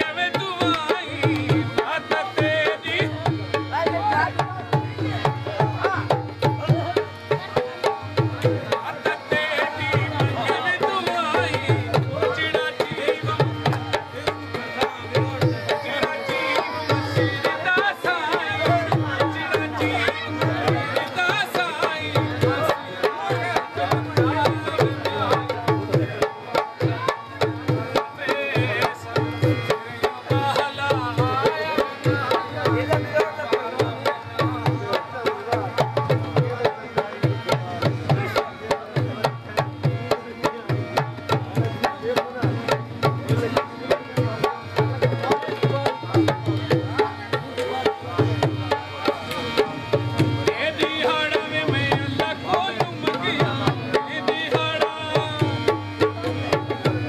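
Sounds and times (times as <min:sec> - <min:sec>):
hand drums fast beat: 0:00.0 - 0:57.0.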